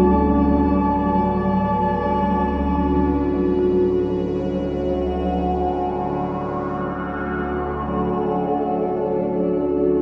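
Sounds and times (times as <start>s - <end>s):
ambient music with held tones: 0.0s - 10.0s.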